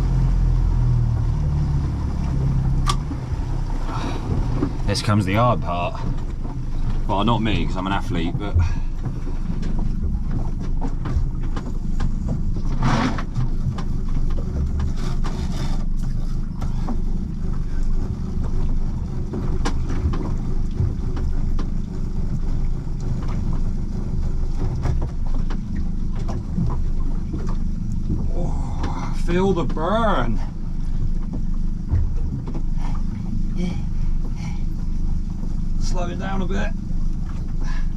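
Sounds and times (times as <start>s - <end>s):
wind and water rumble: 0.0s - 37.9s.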